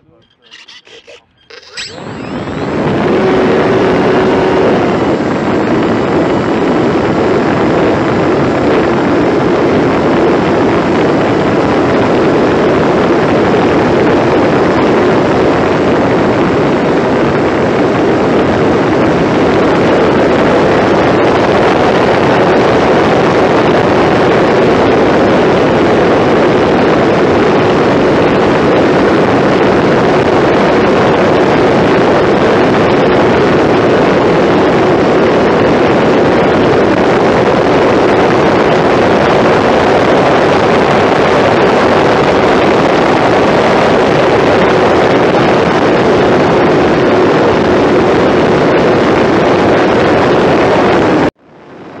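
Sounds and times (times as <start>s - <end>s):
model airplane engine and propeller: 0.0s - 50.0s.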